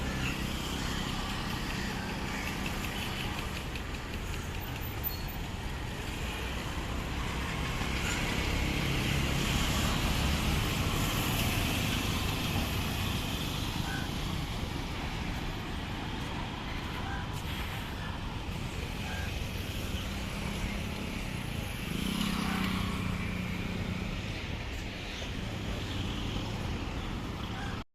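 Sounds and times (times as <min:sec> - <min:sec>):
car and truck engines running: 0:00.0 - 0:27.8
tyres on the road: 0:00.0 - 0:27.9.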